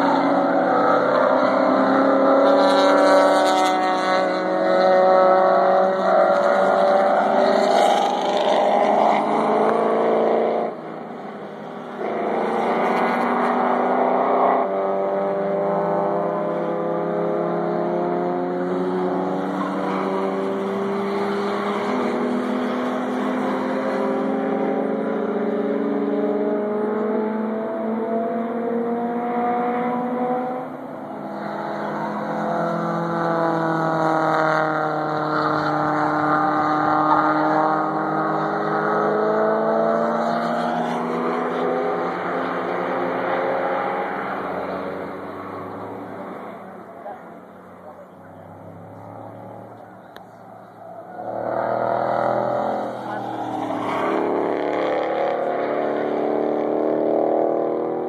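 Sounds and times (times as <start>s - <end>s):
racing cars accelerating: 0.0s - 58.0s.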